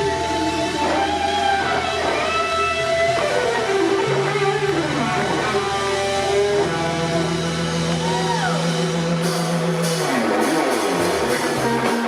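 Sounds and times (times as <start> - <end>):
electric guitar bent notes: 0.0 - 12.0
live blues-rock band: 0.0 - 12.0.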